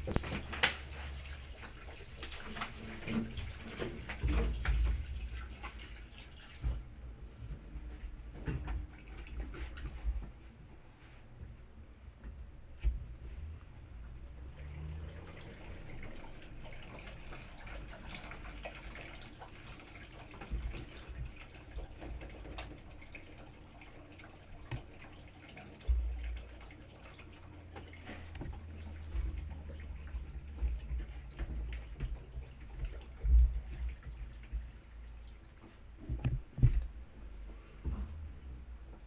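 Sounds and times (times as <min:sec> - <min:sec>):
water dripping: 0:00.0 - 0:10.0, 0:13.6 - 0:39.0
water splashing in washing machine: 0:00.0 - 0:11.2, 0:11.9 - 0:39.0.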